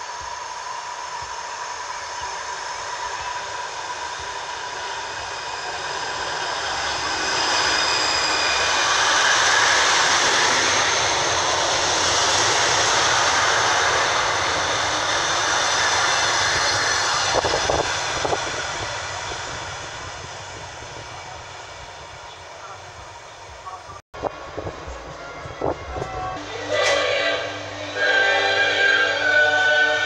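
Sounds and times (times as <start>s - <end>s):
electric train running past: 0.0s - 30.0s.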